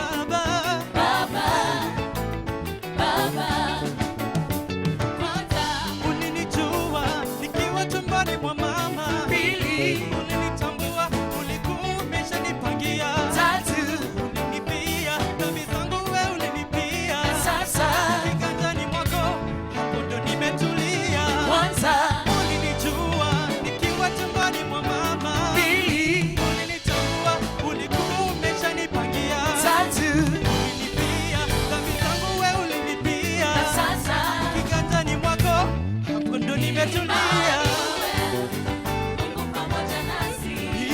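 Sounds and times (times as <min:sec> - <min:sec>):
drums: 0:00.0 - 0:40.9
live band playing: 0:00.0 - 0:40.9
person singing: 0:05.2 - 0:40.9.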